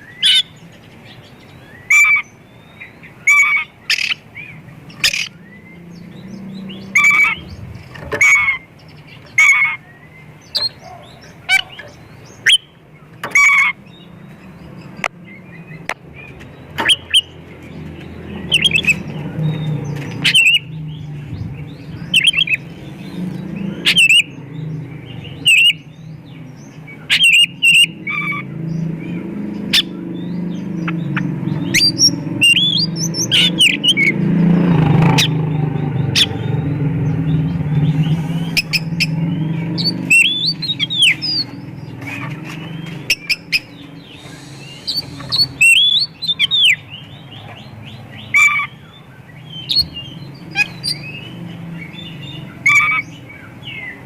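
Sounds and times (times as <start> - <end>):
songbird singing chirps and trills: 0.0 - 54.0.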